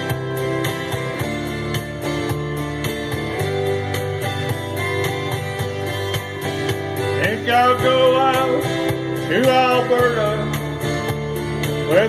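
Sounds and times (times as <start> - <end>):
country band playing: 0.0 - 12.0
guitars strummed: 0.0 - 12.0.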